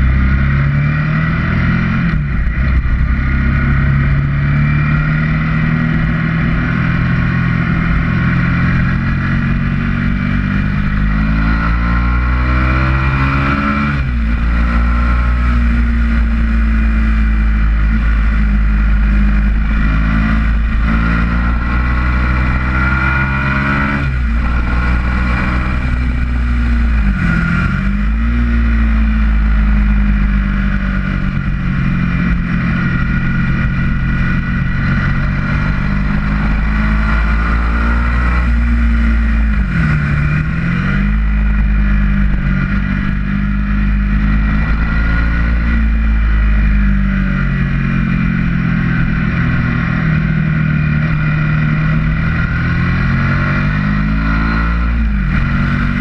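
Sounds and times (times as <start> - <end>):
motorcycle engine revving: 0.0 - 56.0
wind rush of riding: 0.0 - 56.0.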